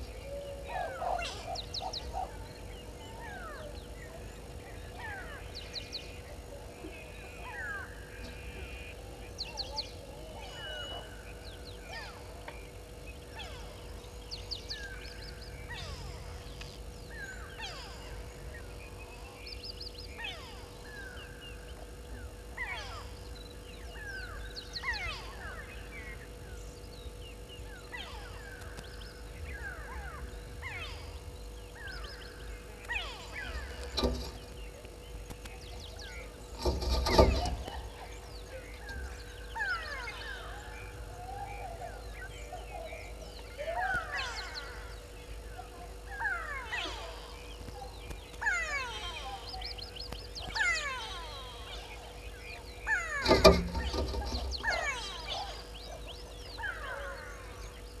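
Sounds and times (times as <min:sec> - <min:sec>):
birds chirping: 0:00.0 - 0:58.0
faint steady hum: 0:00.0 - 0:58.0.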